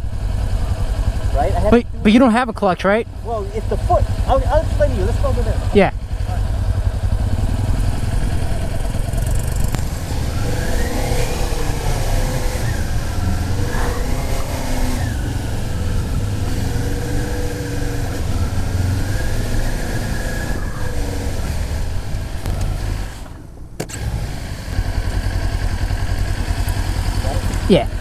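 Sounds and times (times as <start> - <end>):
low steady rumble: 0.0 - 28.0
motorcycle engine pulling away: 0.0 - 28.0.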